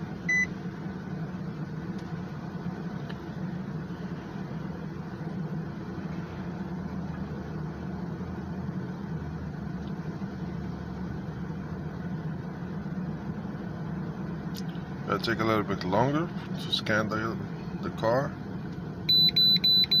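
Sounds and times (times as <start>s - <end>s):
car cabin low hum: 0.0s - 20.0s.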